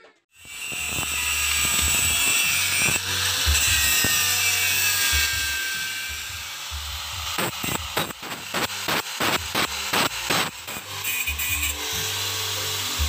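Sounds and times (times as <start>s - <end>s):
angle grinder whining on metal: 0.3s - 13.0s.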